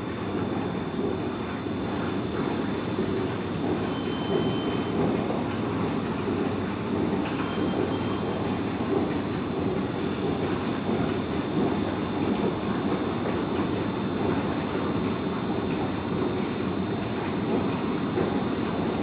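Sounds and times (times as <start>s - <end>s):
subway train rumbling in tunnel: 0.0s - 19.0s.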